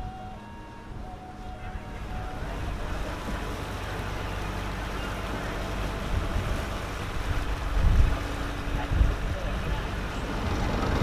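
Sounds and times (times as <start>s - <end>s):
boat engine running: 0.0s - 11.0s
churning wake water: 0.0s - 11.0s
wind on microphone: 0.0s - 11.0s.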